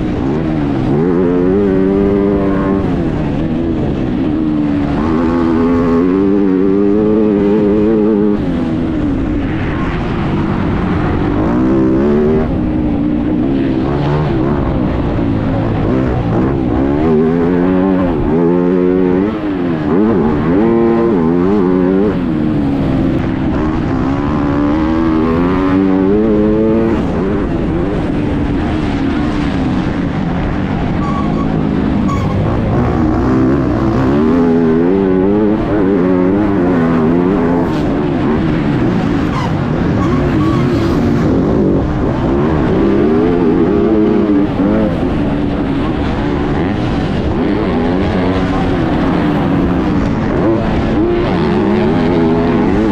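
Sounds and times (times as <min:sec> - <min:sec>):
motocross bike engine revving: 0:00.0 - 0:09.3, 0:10.5 - 0:52.9.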